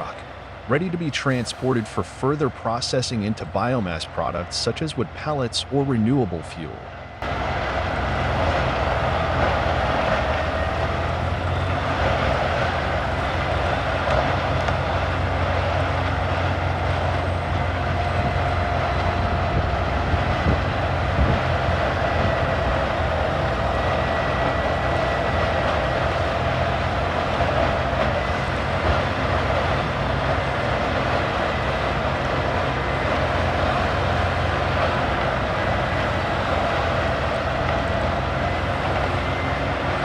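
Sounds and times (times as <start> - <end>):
grinder engine and rotor roar: 0.0 - 40.0.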